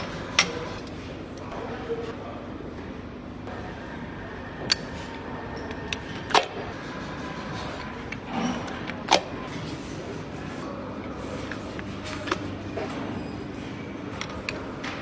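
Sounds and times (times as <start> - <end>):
workshop hum with high whine: 0.0 - 15.0.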